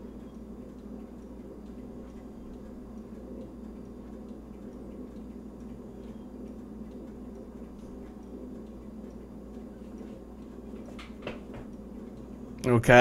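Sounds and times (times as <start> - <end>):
faint ticks: 0.0 - 12.7
low room hum: 0.0 - 13.0.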